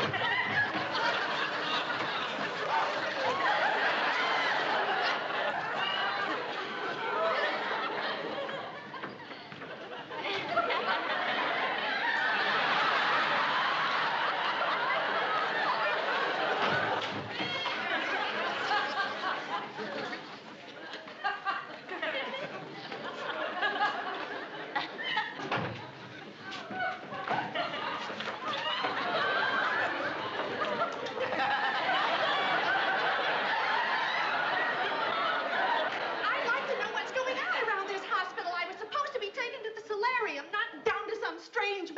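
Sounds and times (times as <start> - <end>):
audience laughing: 0.0 - 38.7.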